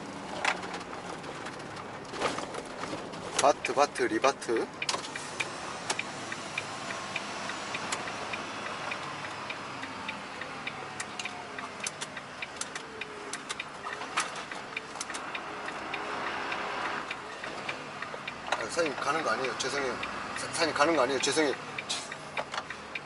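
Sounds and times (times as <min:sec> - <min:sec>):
engine and road noise: 0:00.0 - 0:23.0
turn signal ticking: 0:03.3 - 0:23.0.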